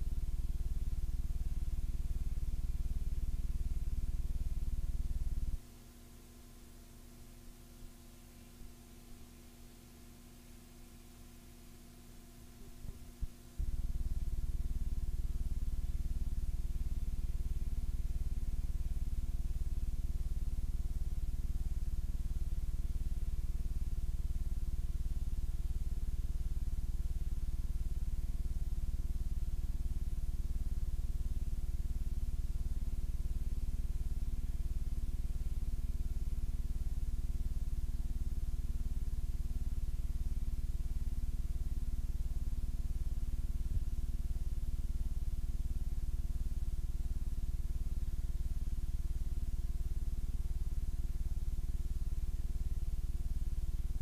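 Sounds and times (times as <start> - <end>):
low electrical hum and buzz: 0.0 - 54.0.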